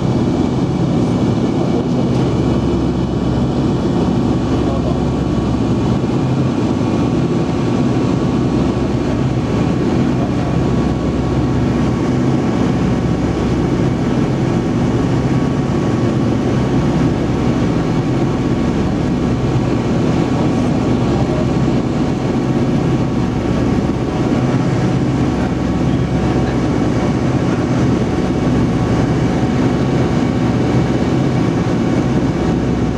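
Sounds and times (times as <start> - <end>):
propeller aircraft engines droning: 0.0 - 32.9.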